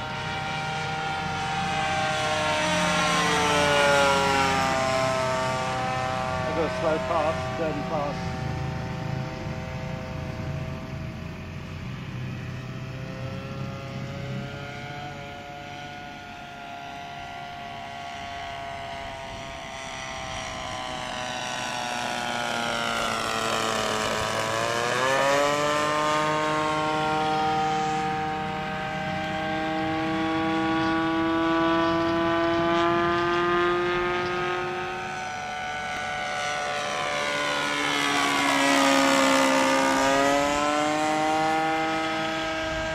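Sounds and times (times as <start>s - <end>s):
model airplane engine whine: 0.0s - 42.9s.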